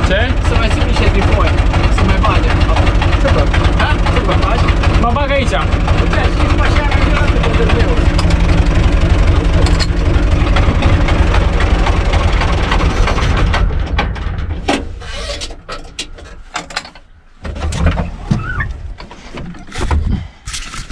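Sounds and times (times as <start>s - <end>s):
tractor diesel engine running: 0.0s - 20.8s
metal knocks and clunks: 0.1s - 20.8s.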